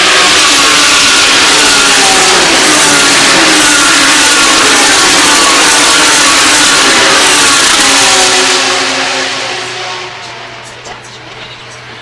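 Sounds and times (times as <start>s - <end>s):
race car engines at high revs: 0.0s - 11.3s.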